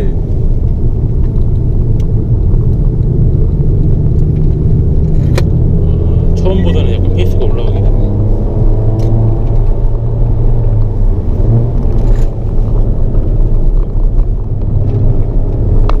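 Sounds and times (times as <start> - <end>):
car engine droning: 0.0 - 16.0
road rumble: 0.0 - 16.0.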